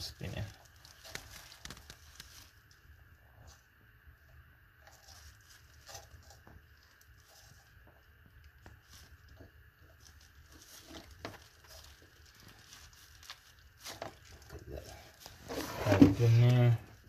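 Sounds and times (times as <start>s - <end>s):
plastic bag rustling: 0.0s - 2.8s, 4.8s - 17.0s.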